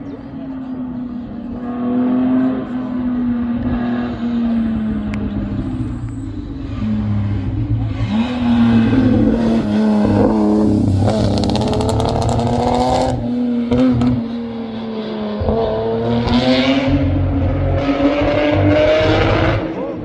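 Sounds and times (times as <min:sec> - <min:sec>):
racing car engines running: 0:00.0 - 0:20.0.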